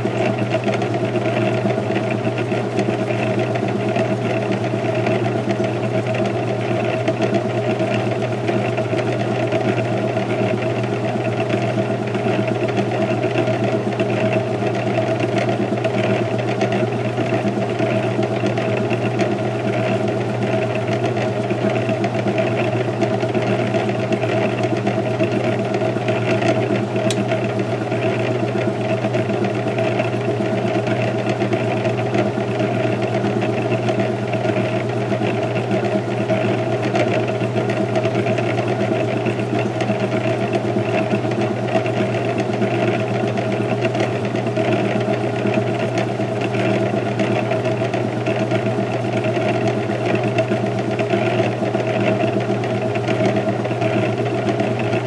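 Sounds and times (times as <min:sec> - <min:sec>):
washing machine spinning: 0:00.0 - 0:55.0.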